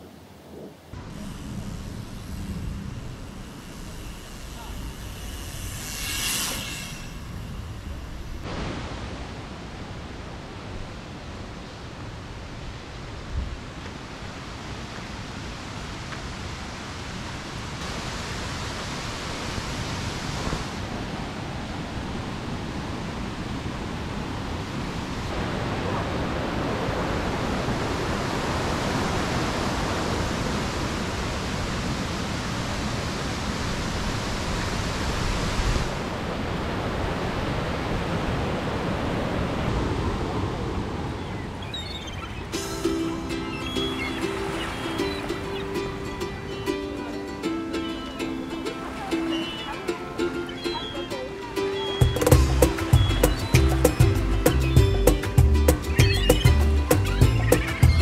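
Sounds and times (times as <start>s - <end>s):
stream rushing over rocks: 8.4s - 58.0s.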